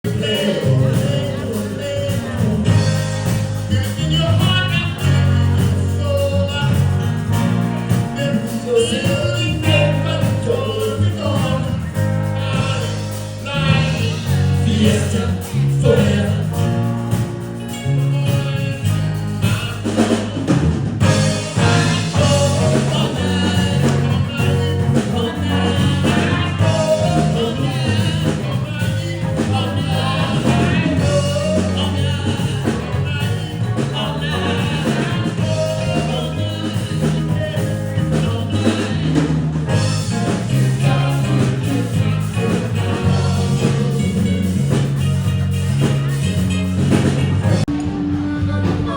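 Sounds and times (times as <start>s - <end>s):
drum kit: 0.0s - 48.9s
live rock and blues band: 0.0s - 48.9s
steady bass line: 0.0s - 48.9s
person singing: 0.1s - 48.9s.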